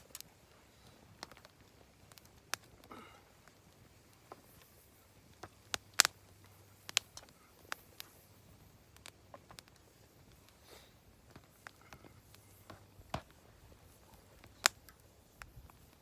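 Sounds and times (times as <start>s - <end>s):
campfire wood crackling: 0.0s - 16.0s.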